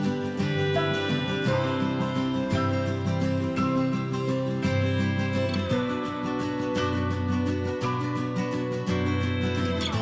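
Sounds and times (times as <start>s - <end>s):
acoustic guitar plucked and strummed: 0.0s - 10.0s.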